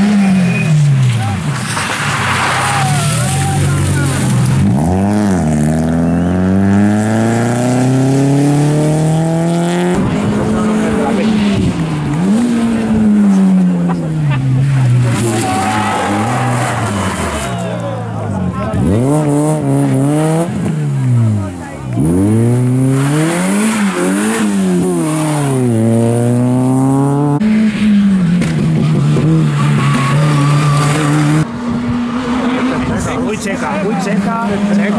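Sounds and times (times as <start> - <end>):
rally car engine accelerating: 0.0 - 34.9
rally car engine at lower revs: 3.8 - 17.6, 18.2 - 34.9.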